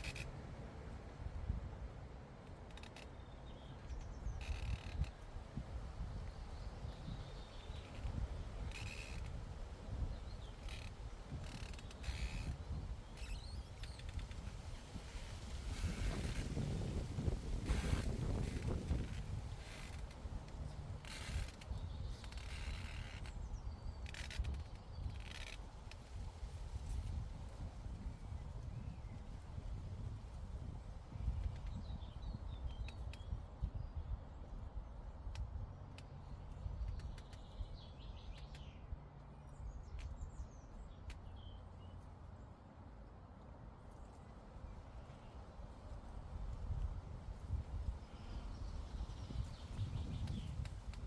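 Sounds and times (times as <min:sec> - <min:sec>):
wind rumble on microphone: 0:00.0 - 0:42.0, 0:43.8 - 0:51.0.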